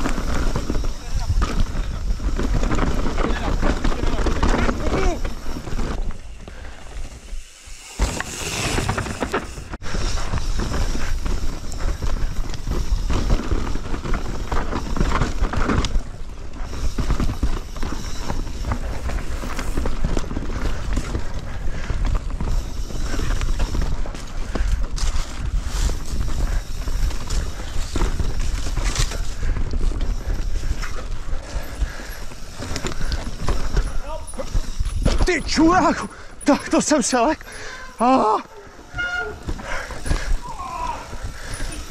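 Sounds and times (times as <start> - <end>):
bike knocks and rattles: 0.0 - 41.9
bike tyres on rough ground: 0.0 - 41.9.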